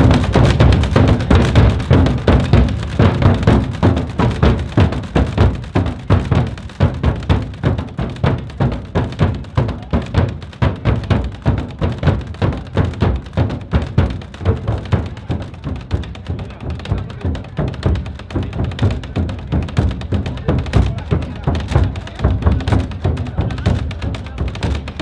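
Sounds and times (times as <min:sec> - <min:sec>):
drums beating: 0:00.0 - 0:25.0.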